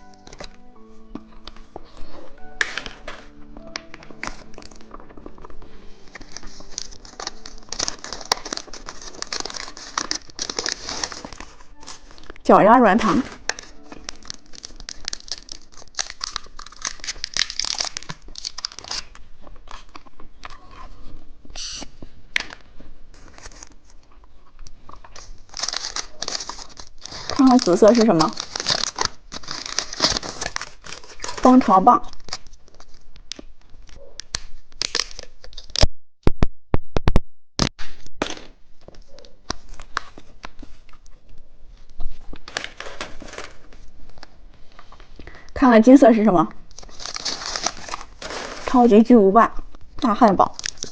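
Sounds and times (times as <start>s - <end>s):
candy wrapper crinkling and tearing: 1.4s - 35.9s, 39.0s - 41.0s, 41.9s - 45.4s, 46.5s - 50.9s.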